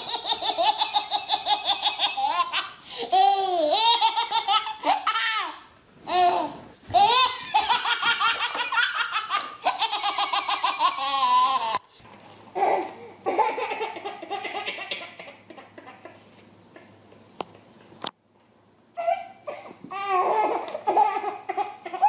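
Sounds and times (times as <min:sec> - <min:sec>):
baby belly laughing: 0:00.0 - 0:11.9, 0:12.6 - 0:16.2, 0:19.0 - 0:22.0
baby laughing softly: 0:00.0 - 0:17.7, 0:18.9 - 0:22.0.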